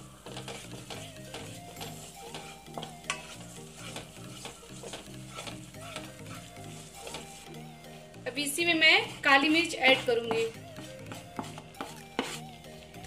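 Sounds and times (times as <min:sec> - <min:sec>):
wooden spatula scraping a pan: 0:00.0 - 0:07.7, 0:08.4 - 0:12.6
roux sizzling in a pan: 0:00.0 - 0:13.0.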